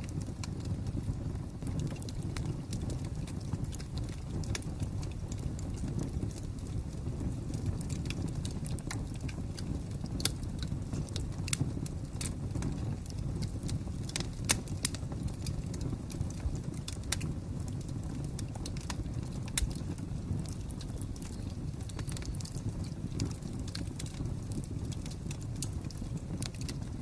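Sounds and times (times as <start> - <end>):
fire snaps and pops: 0.0 - 27.0
wood fire crackling: 0.0 - 27.0.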